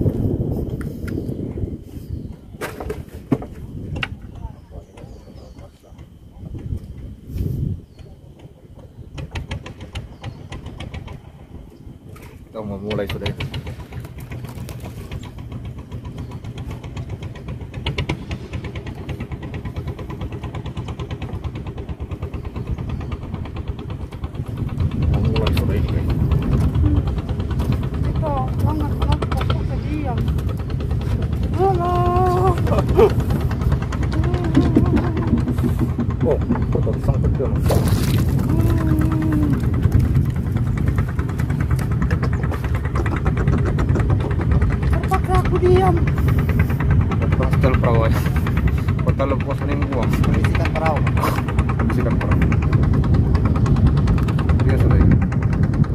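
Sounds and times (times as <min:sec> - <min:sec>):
boat engine puttering: 0:00.0 - 0:55.9.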